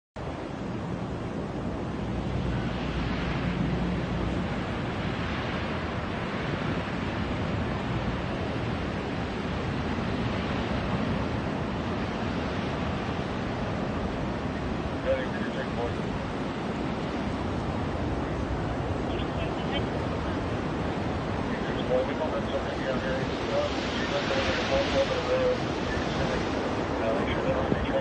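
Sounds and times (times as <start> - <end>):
wildfire burning through trees: 0.2 - 28.0
wind: 0.2 - 28.0.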